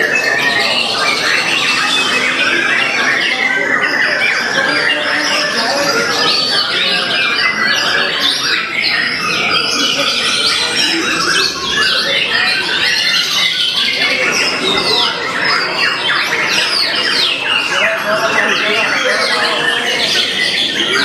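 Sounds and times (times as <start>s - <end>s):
chorus of songbirds singing: 0.0s - 21.0s.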